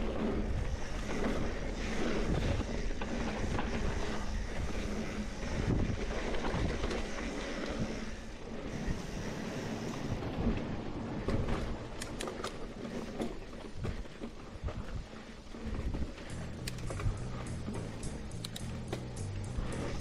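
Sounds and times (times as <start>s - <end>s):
bike rattling over bumps: 0.0s - 20.0s
bike tyres crunching over dirt: 0.0s - 20.0s
wind rumbling on microphone: 0.0s - 20.0s.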